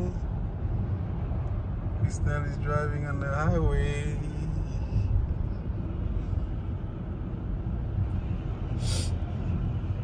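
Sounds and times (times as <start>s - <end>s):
road and tyre rumble: 0.0s - 10.0s.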